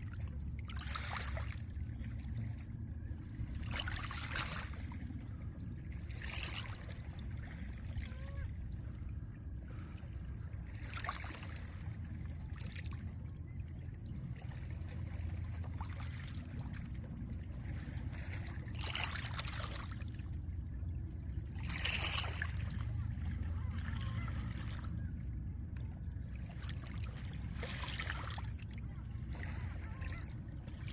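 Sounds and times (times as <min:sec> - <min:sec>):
low rumble of water and wind: 0:00.0 - 0:30.9.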